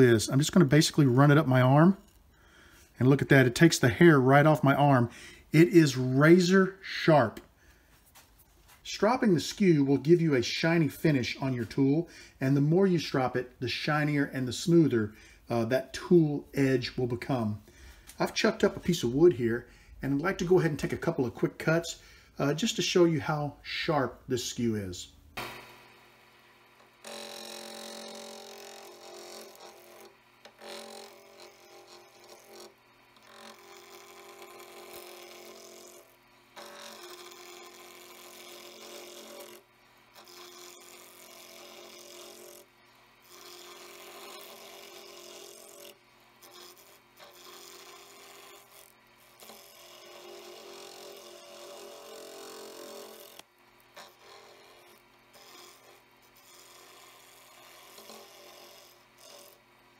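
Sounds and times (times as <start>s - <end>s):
chisel scraping wood on lathe: 0.0s - 22.0s, 26.8s - 59.7s.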